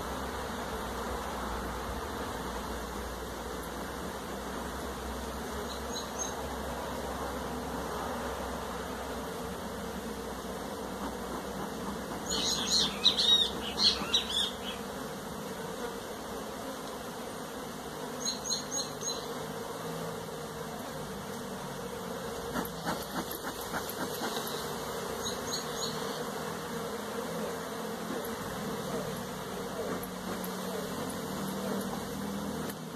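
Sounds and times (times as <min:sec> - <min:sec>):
bees buzzing: 0:00.0 - 0:32.9.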